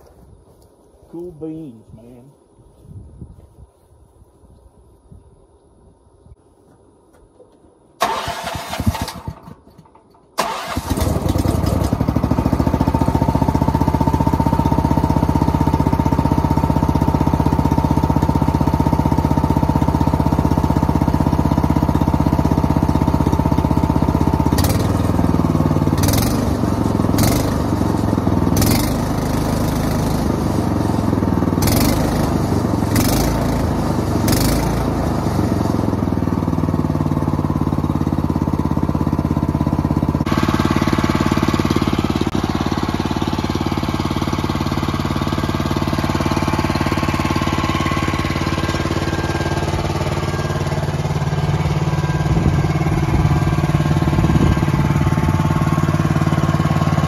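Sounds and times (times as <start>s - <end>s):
small engine idling: 8.0s - 57.0s.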